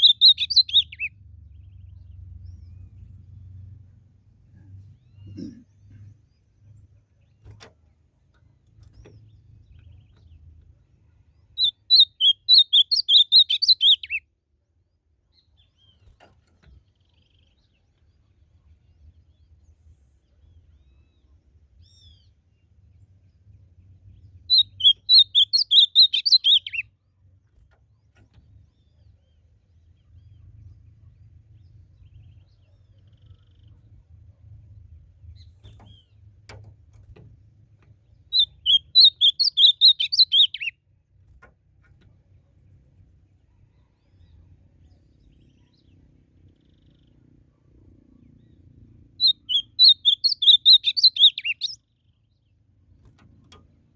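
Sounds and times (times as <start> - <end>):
bird singing warbled phrases: 0.0 - 3.8, 4.6 - 7.6, 8.8 - 14.3, 15.0 - 53.2.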